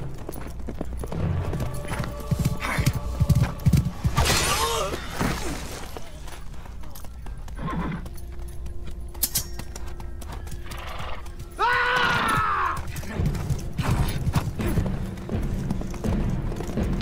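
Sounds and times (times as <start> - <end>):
hooves beating: 0.0 - 17.0
orchestral film music: 0.0 - 17.0.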